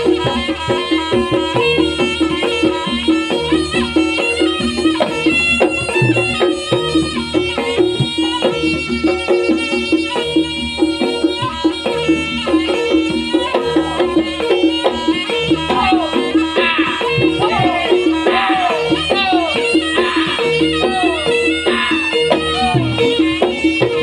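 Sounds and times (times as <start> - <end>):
percussion steady beat: 0.0 - 24.0.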